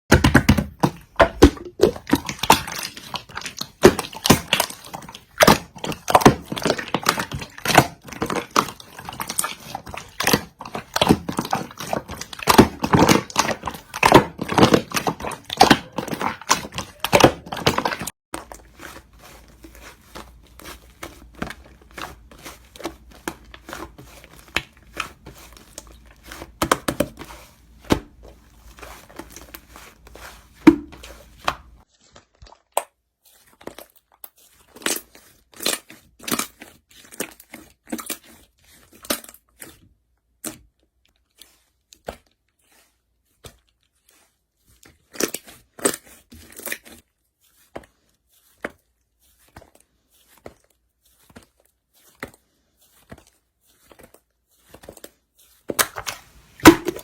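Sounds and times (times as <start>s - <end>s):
crinkling handling noise: 0.8s - 38.9s, 41.2s - 57.0s.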